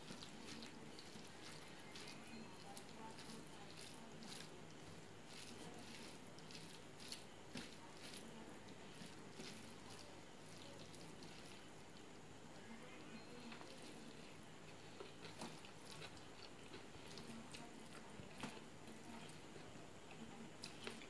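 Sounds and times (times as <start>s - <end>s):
fingers squishing rice on plate: 0.0s - 12.1s, 13.4s - 21.0s.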